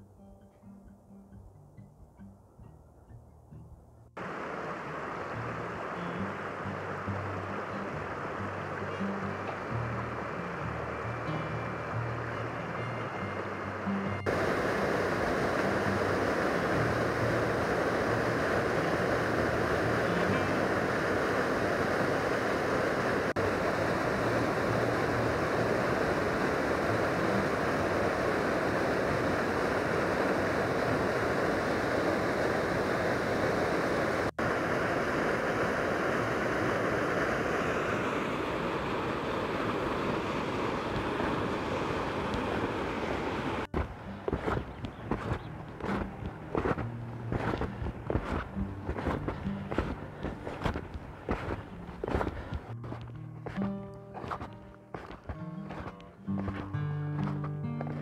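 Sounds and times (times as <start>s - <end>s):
stream rushing over rocks: 4.2s - 58.0s.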